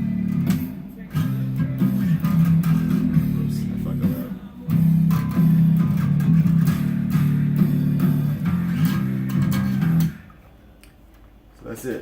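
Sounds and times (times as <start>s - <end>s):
electric bass guitar: 0.0s - 10.5s
recorded song playing: 0.0s - 10.8s.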